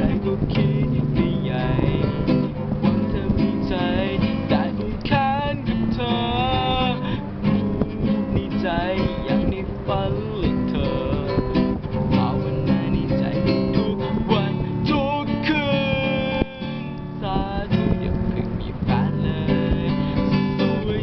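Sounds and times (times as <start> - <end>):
nylon-string acoustic guitar: 0.0 - 21.0.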